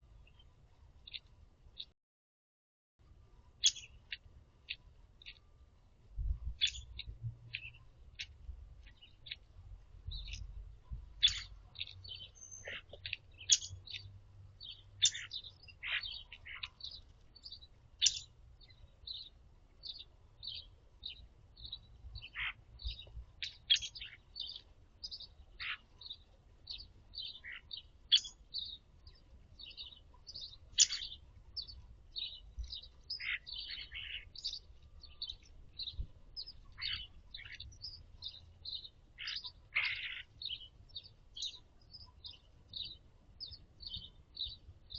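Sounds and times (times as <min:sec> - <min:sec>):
birds chirping: 0:00.0 - 0:01.9, 0:03.4 - 0:05.9, 0:06.5 - 0:44.9.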